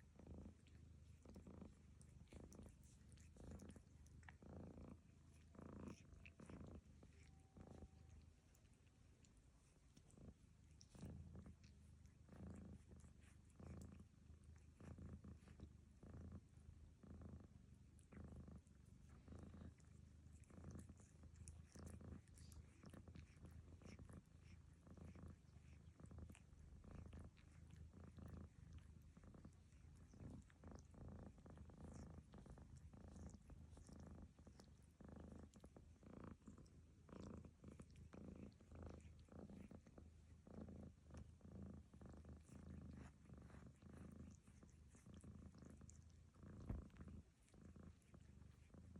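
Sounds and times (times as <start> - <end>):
cat licking fur: 0.0 - 48.9
cat snoring faintly: 0.0 - 48.9.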